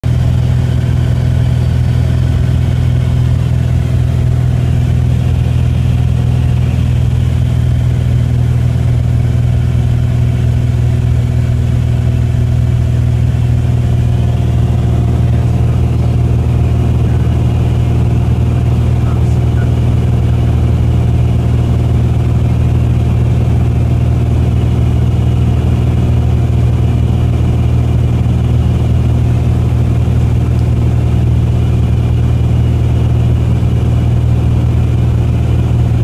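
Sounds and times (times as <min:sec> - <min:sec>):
aircraft engine drone: 0:00.0 - 0:36.0.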